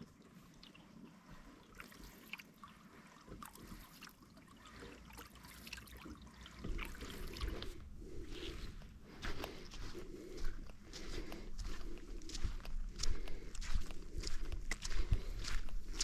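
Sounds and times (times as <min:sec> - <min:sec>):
lake water trickling and splashing: 0:00.0 - 0:16.0.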